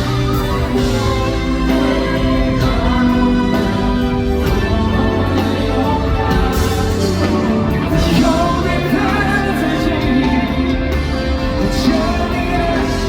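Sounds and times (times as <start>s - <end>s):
live band playing: 0.0s - 13.0s
person singing: 0.0s - 13.0s.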